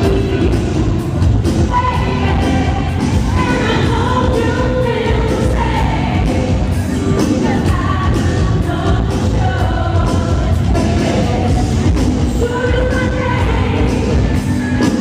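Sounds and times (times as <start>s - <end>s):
pop music with bass beat: 0.0s - 15.0s.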